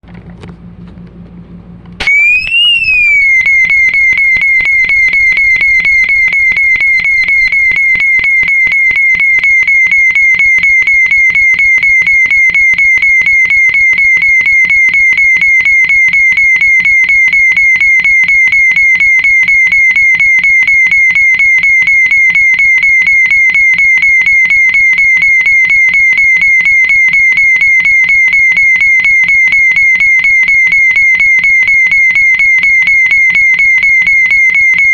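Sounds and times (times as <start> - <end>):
fire alarm horn pulsing tone: 2.0 - 34.9.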